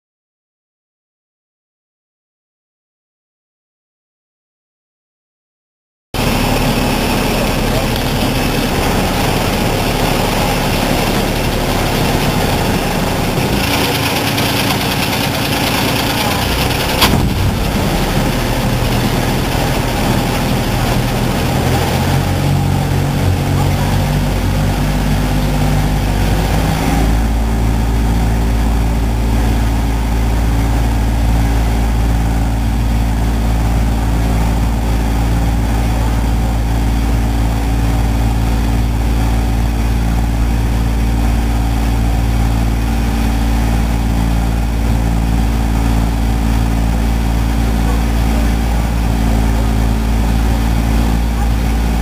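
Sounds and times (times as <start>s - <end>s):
boat engine running: 6.2s - 52.0s.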